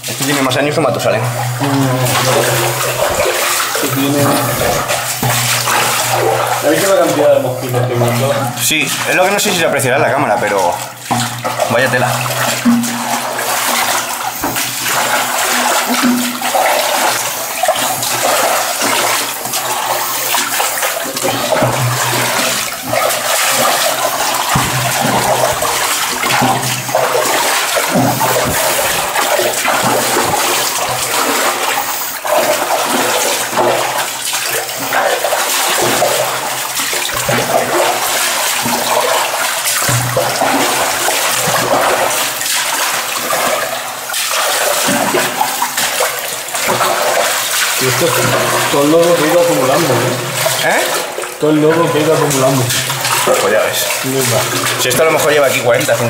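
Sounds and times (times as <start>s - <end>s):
footsteps wading through water and mud: 0.0s - 56.0s.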